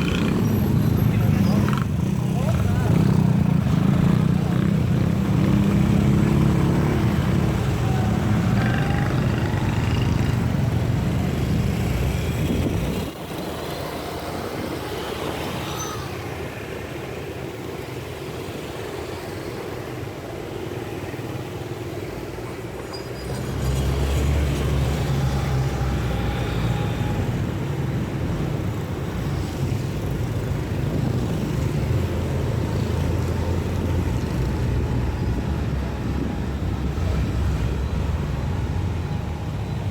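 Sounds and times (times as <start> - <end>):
motor vehicle engines running: 0.0 - 39.9.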